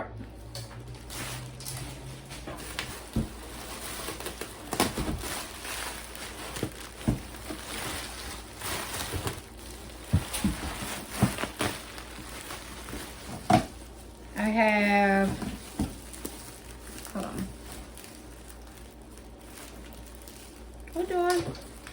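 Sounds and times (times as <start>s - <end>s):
packaging rustling: 0.4s - 21.9s.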